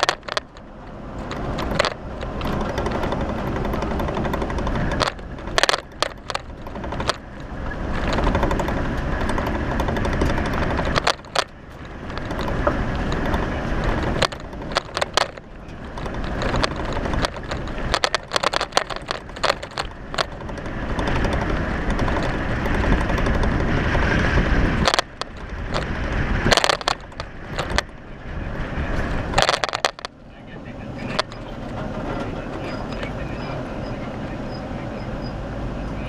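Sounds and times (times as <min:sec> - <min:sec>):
sharp cracks and knocks: 0:00.0 - 0:28.1, 0:28.8 - 0:30.2
tires crunching over gravel: 0:00.0 - 0:36.0
vehicle engine running: 0:00.0 - 0:36.0.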